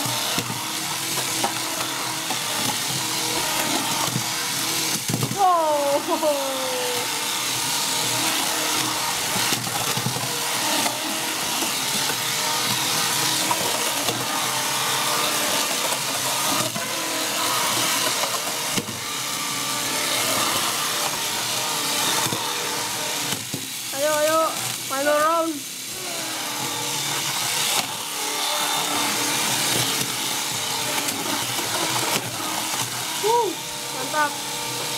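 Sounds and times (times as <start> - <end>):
toy robot motors whirring: 0.0 - 34.9.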